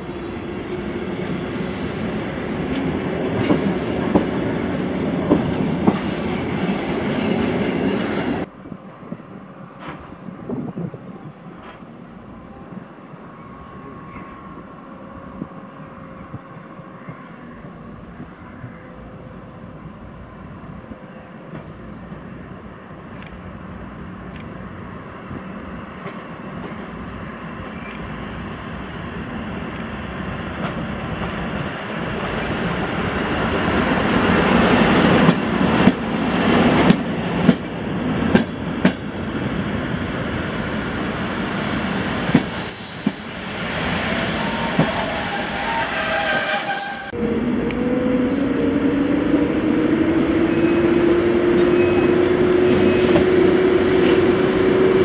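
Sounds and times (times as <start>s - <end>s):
train low rumble: 0.0s - 42.5s, 43.4s - 55.0s.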